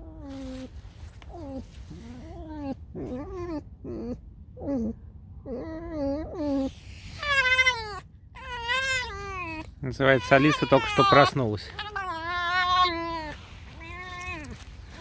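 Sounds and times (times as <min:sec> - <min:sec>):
fox squeaking: 0:00.0 - 0:04.9, 0:05.5 - 0:15.0.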